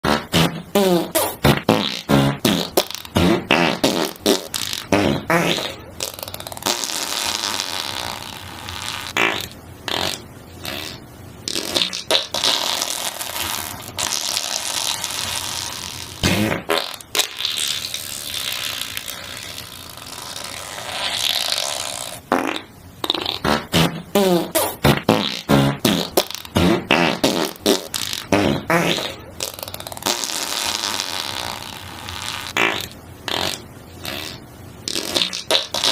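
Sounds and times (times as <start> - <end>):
long sputtering farts: 0.0 - 35.9
short pitched fart toots: 0.0 - 35.9
short sharp fart blasts: 0.0 - 35.9.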